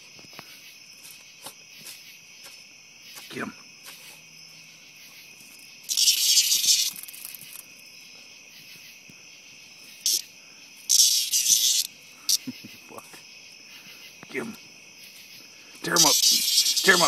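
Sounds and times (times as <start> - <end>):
high insect trilling: 0.0 - 17.0
cicada distress buzzing: 0.7 - 7.9, 9.8 - 17.0.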